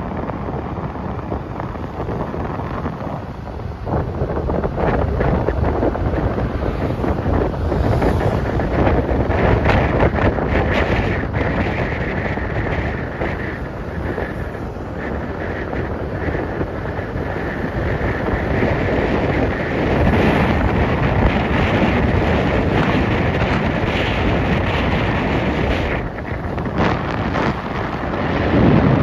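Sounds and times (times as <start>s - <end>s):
road noise: 0.0s - 29.0s
wind buffeting microphone: 0.0s - 29.0s.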